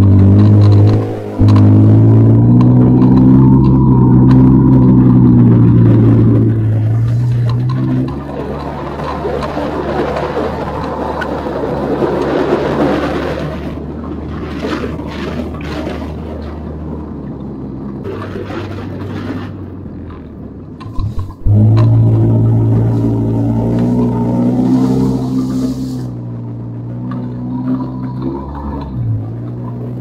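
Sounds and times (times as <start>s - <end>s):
loud steady hum: 0.0s - 30.0s
quad bike engine running: 0.0s - 30.0s.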